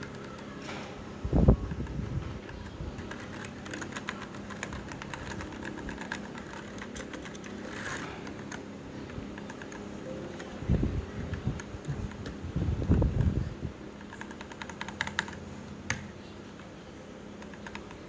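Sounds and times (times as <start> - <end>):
mechanical keyboard typing: 0.0 - 0.6, 1.4 - 16.0, 17.3 - 18.0.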